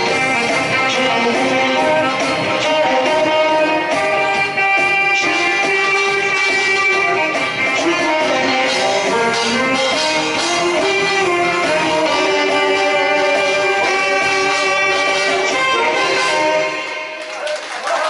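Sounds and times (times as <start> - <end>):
backing track with guitar: 0.0 - 17.1
alto saxophone melody: 0.0 - 17.2.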